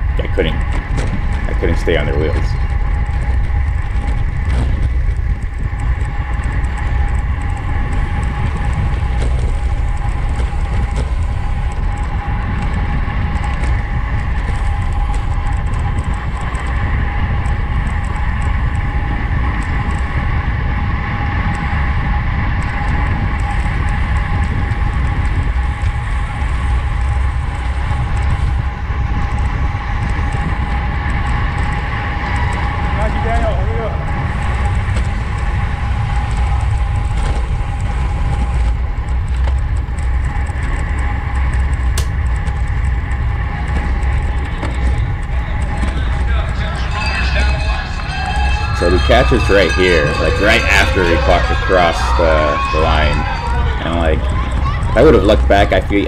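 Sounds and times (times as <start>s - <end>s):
constant high whine: 0.0s - 56.0s
wind rumbling on microphone: 0.0s - 56.0s.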